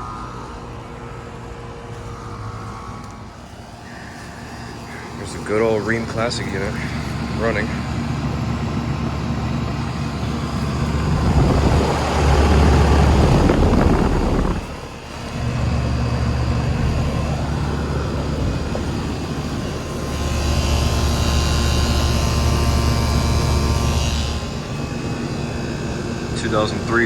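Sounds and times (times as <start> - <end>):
compressor hum: 0.0 - 27.0
outdoor fan rushing: 0.0 - 27.0.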